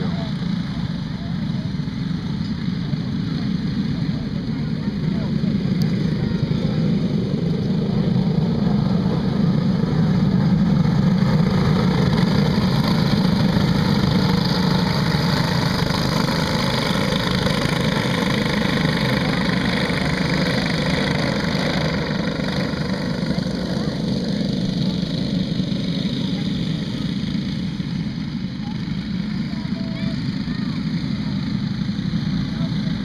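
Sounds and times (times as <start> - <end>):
go-kart engines droning: 0.0 - 33.0.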